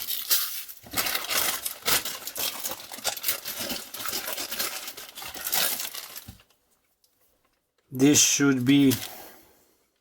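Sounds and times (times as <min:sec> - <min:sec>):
plastic packaging crinkling: 0:00.0 - 0:06.6, 0:07.4 - 0:09.4.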